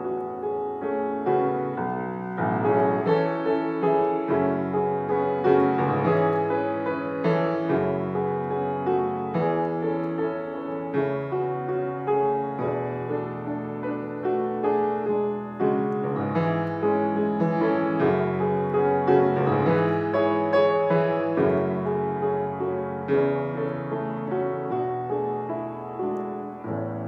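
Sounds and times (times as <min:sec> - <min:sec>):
solo grand piano: 0:00.0 - 0:27.0.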